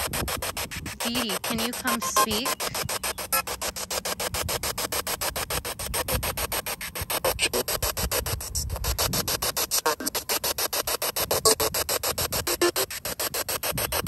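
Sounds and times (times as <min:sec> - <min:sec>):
radio static chopped into bursts: 0:00.0 - 0:14.0.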